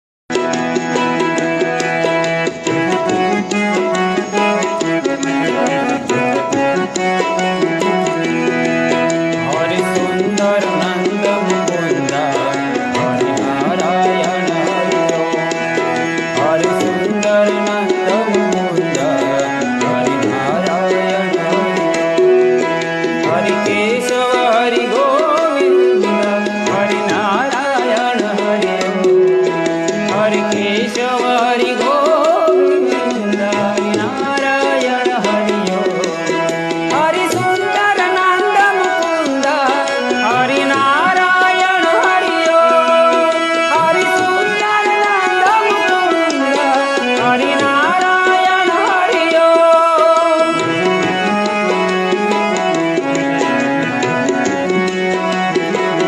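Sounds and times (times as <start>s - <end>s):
harmonium chords and melody: 0.3s - 56.0s
tabla rhythm: 0.3s - 56.0s.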